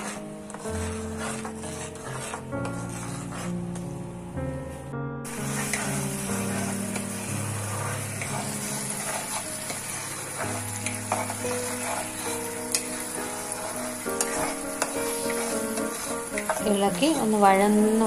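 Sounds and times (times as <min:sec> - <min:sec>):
paste sizzling in hot oil: 0:00.0 - 0:03.7, 0:05.2 - 0:18.0
spatula scraping a pan: 0:00.0 - 0:04.0, 0:05.3 - 0:18.0
soft background music: 0:00.0 - 0:18.0.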